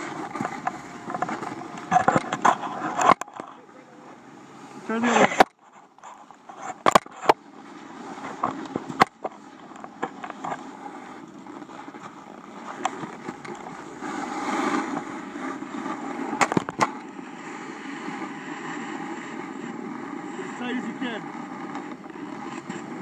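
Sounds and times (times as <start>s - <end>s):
snowboards scraping over snow: 0.0s - 23.0s.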